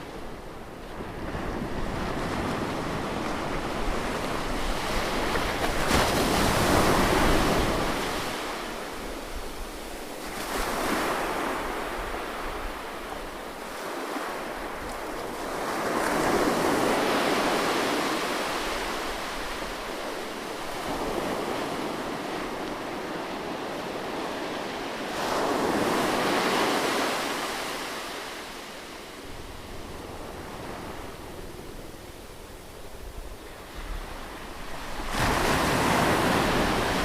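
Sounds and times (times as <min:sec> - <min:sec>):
ocean waves breaking on shore: 0:00.0 - 0:37.0.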